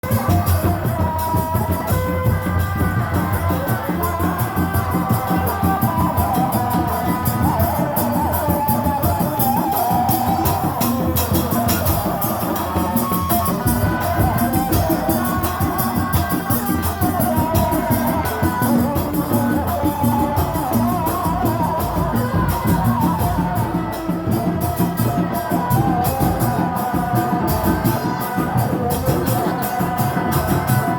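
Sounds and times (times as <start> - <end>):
fast dense drumming: 0.0 - 30.9.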